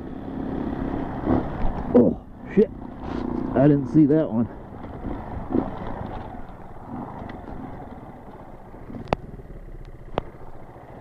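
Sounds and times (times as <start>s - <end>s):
dirt bike engine at low revs: 0.0s - 11.0s.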